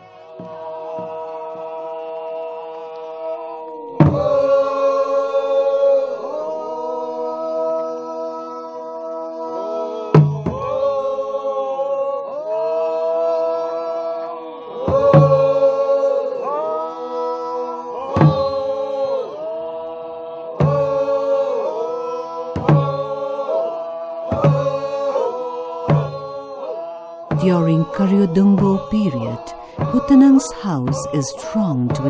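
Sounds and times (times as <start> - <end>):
group chanting: 0.0 - 32.0.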